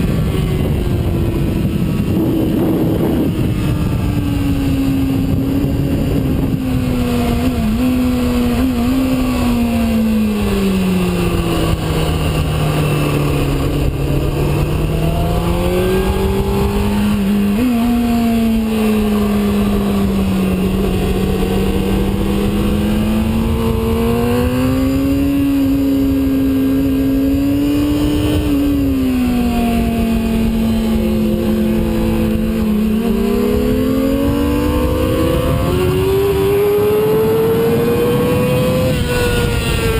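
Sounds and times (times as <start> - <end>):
constant rushing noise: 0.0 - 39.9
motorbike engine running hard: 0.0 - 39.9.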